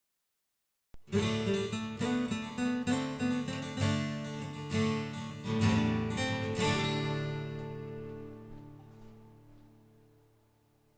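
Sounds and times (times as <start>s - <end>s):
strummed acoustic guitar: 1.0s - 10.8s.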